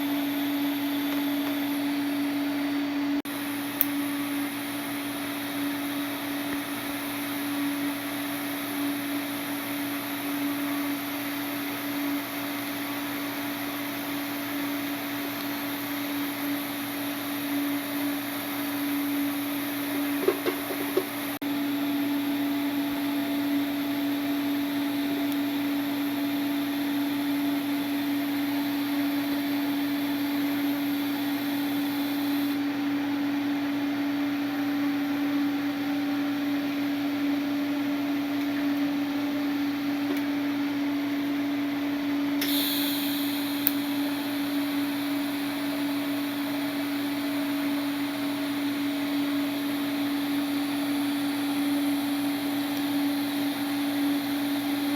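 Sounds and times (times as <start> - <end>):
machine hum with constant tone: 0.0 - 54.9.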